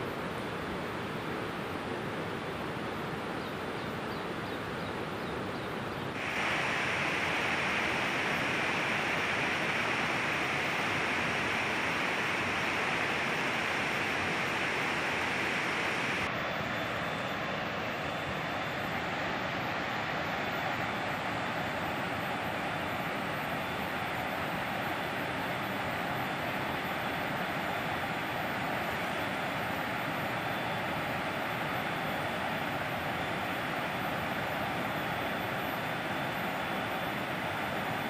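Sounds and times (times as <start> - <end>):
fast-flowing river rushing: 6.2 - 38.0.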